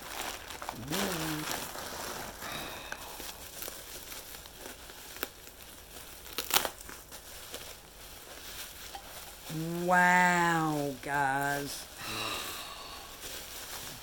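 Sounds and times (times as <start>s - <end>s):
wrapping paper crinkling and tearing: 0.0s - 14.0s.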